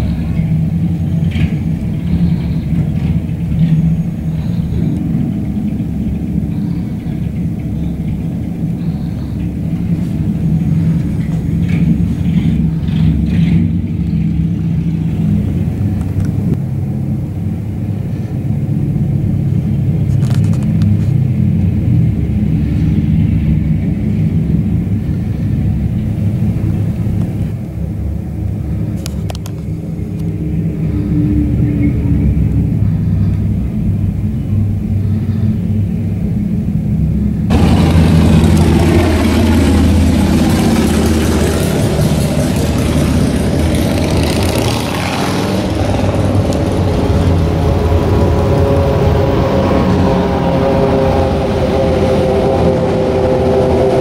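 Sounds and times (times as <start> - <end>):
motorcycle engines running: 0.0 - 54.0
vehicle passing close: 0.0 - 54.0.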